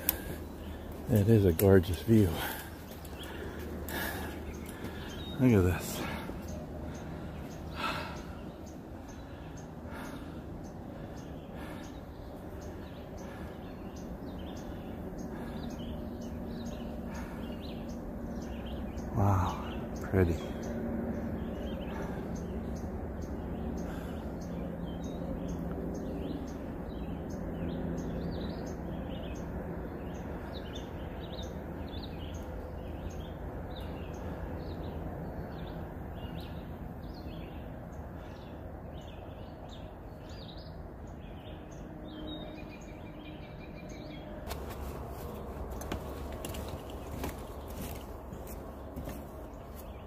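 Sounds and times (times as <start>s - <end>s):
low background hum: 0.0s - 50.0s
songbirds chirping: 0.0s - 50.0s.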